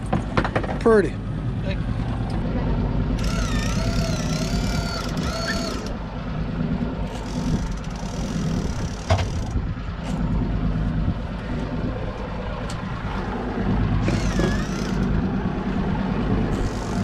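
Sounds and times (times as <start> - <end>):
fishing boat engine rumble: 0.0 - 17.0.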